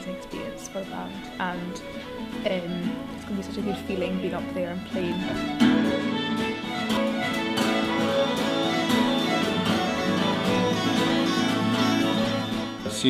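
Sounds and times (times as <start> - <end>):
fiddle: 0.0 - 13.0
strummed guitar: 0.0 - 13.0.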